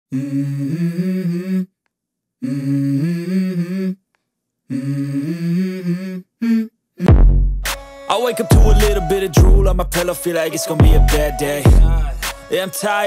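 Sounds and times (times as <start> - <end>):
person humming melody: 0.1 - 1.7, 2.4 - 4.0, 4.7 - 7.2, 8.1 - 12.9.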